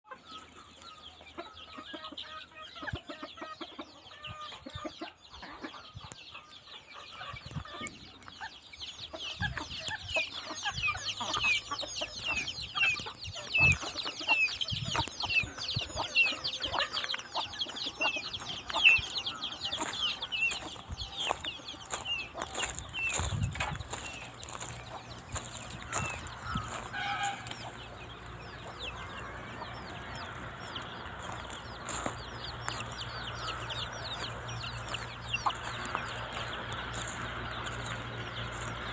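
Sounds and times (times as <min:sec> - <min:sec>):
farmyard birds chirping and clucking: 0:00.0 - 0:38.9.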